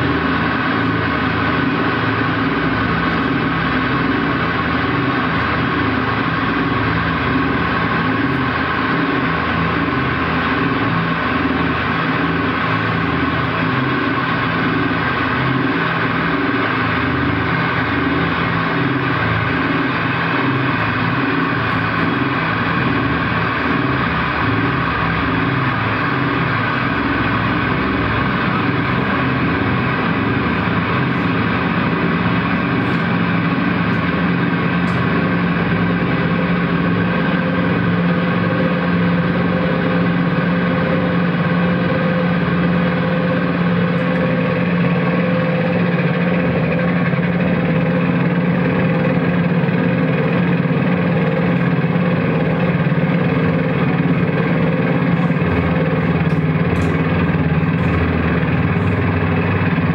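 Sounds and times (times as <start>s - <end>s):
ambient electric guitar drone: 0.0s - 59.9s.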